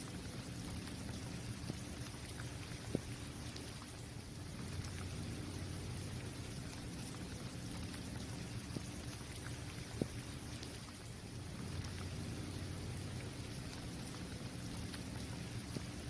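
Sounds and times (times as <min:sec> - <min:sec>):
rain hissing on a court: 0:00.0 - 0:16.0.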